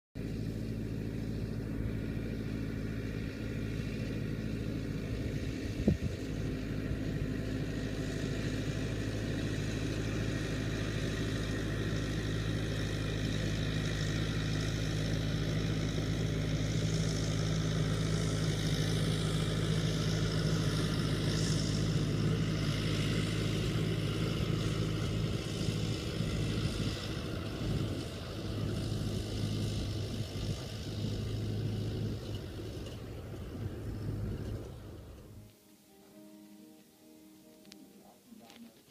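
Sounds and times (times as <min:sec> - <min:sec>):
hay tedder working: 0:00.2 - 0:35.5
tractor diesel engine running: 0:00.2 - 0:36.2.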